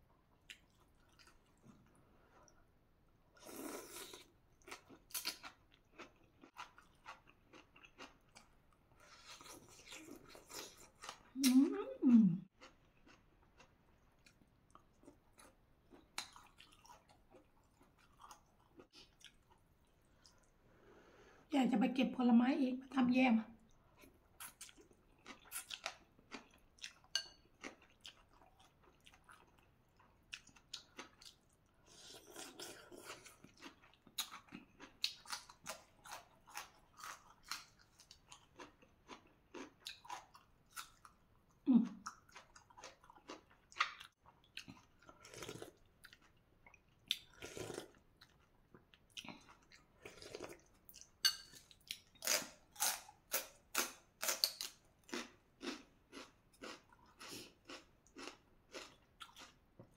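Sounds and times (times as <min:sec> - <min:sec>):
crunching and chewing: 0:03.5 - 0:11.4, 0:12.5 - 0:20.5, 0:23.7 - 0:59.9.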